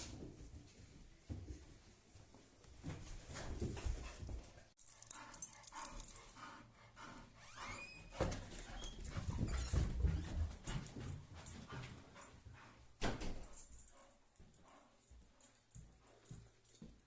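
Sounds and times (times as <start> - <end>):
light knocks and shuffling: 0.0 - 6.4, 8.0 - 17.0.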